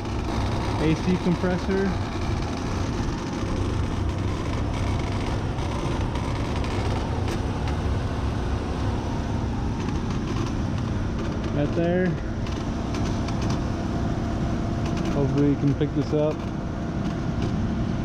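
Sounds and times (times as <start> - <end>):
belt and pulley noise: 0.0 - 18.0
car engine idling: 0.0 - 18.0.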